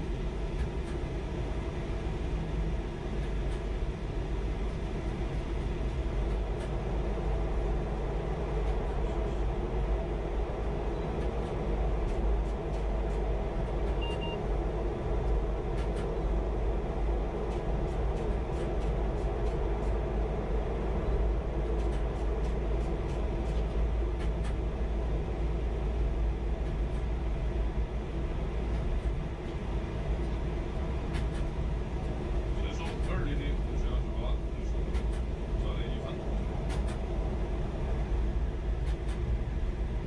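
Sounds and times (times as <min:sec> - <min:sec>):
train rumbling through tunnel: 0:00.0 - 0:40.0.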